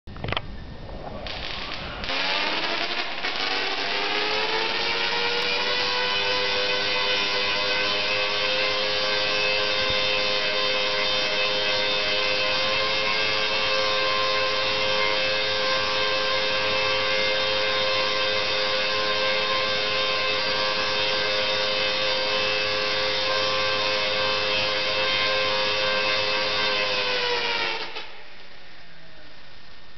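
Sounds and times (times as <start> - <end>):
tesla coil arcs buzzing: 1.2 - 28.4.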